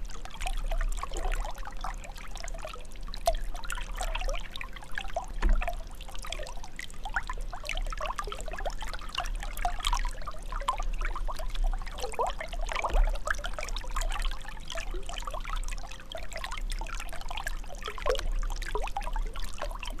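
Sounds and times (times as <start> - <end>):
water trickling and bubbling: 0.0 - 20.0.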